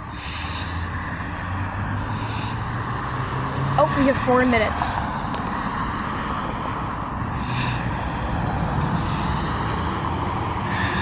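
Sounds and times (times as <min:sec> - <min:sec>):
cars passing with low rumble: 0:00.0 - 0:11.0.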